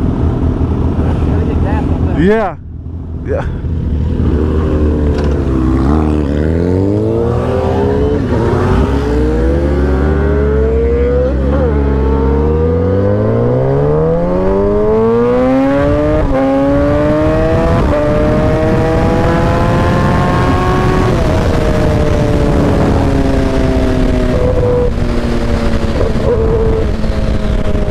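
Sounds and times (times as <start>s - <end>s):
motorcycle engine accelerating: 2.8s - 27.9s.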